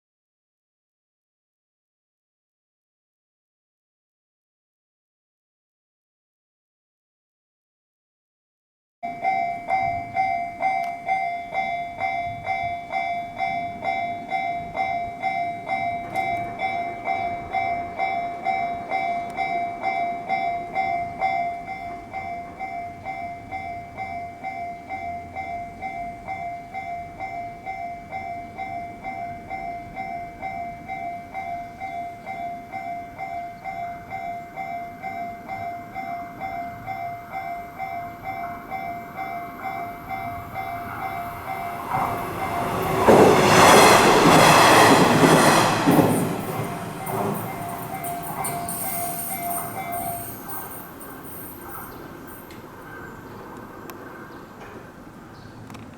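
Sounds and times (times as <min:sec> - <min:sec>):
level-crossing warning bell: 0:09.0 - 0:54.0.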